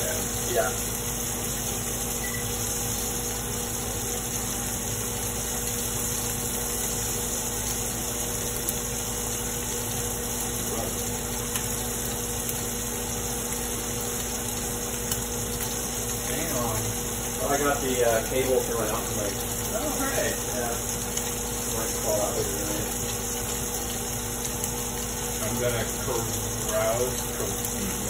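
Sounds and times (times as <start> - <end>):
constant hiss: 0.0 - 28.0
machine hum: 0.0 - 28.0.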